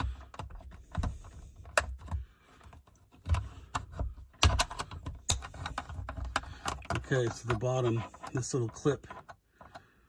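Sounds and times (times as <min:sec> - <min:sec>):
plastic trim clicking and knocking: 0:00.0 - 0:09.9.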